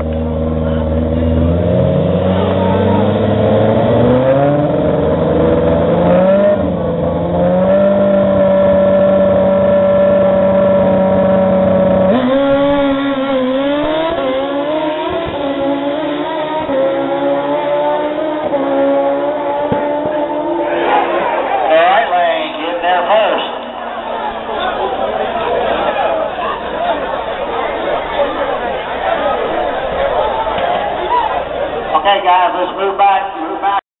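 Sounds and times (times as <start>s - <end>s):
motorcycle engines revving: 0.0s - 33.8s.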